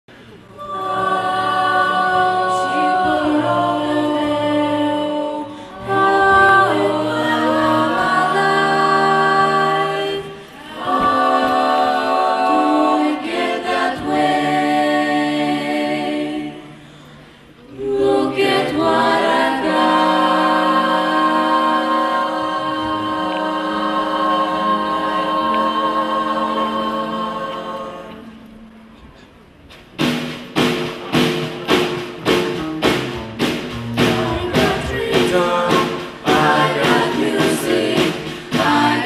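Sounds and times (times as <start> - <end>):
girls' choir singing: 0.4 - 16.8, 17.6 - 29.0, 34.0 - 39.0.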